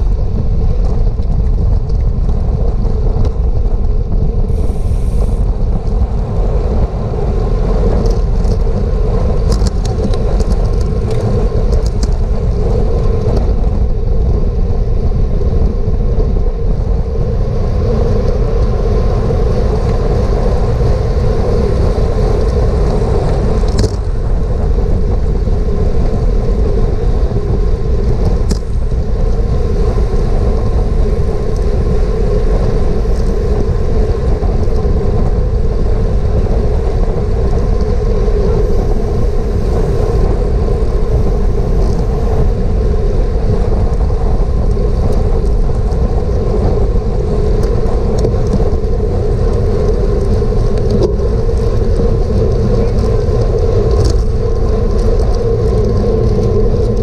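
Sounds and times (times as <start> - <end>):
tyres rumbling on road: 0.0 - 57.0
wind buffeting camera: 0.0 - 57.0.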